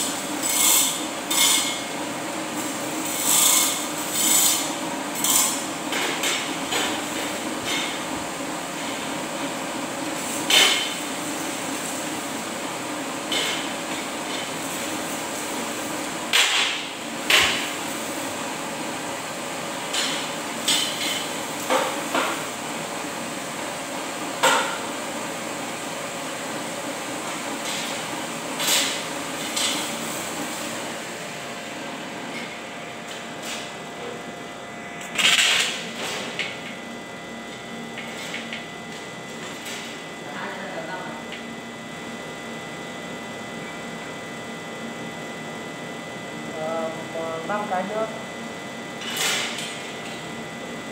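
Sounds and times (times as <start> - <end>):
electric fan hum: 0.0 - 50.9.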